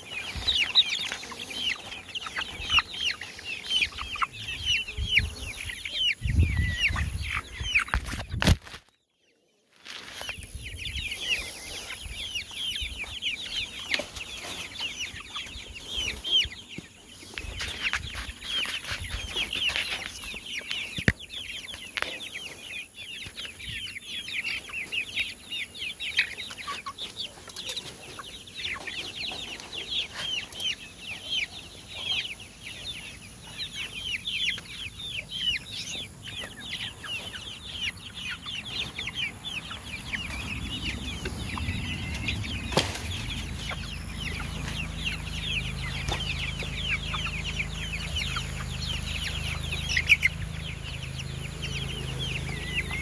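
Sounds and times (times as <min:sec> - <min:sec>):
young chickens peeping: 0:00.0 - 0:53.0.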